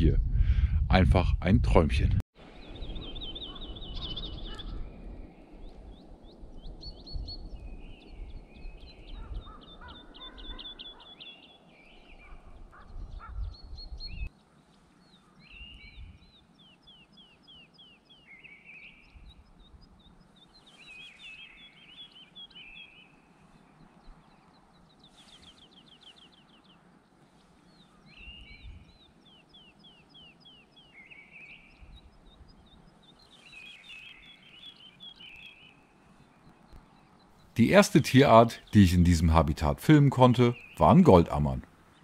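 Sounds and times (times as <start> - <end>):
birds singing high sweeping notes: 2.5 - 14.4, 15.4 - 42.0
harsh bird calls: 2.6 - 14.5, 15.1 - 42.0.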